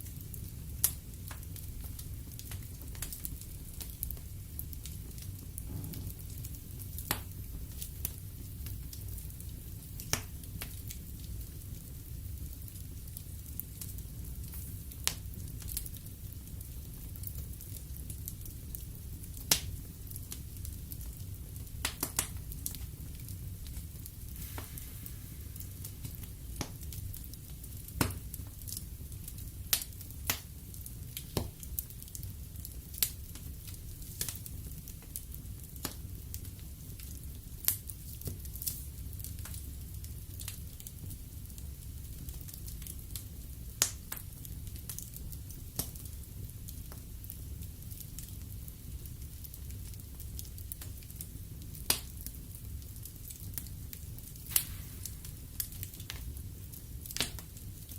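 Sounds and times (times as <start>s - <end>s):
burning logs crackling and popping: 0.0s - 57.9s
fire flames rumbling: 0.0s - 57.9s.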